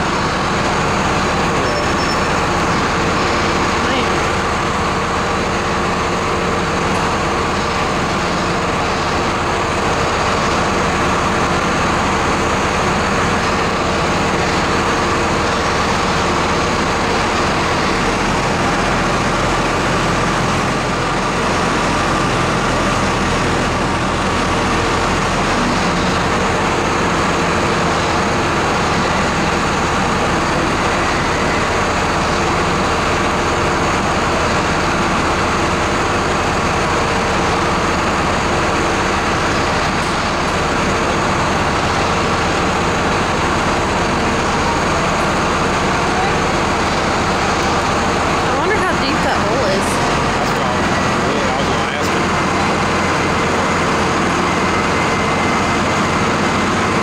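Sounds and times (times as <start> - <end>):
crane engine droning: 0.0 - 57.0.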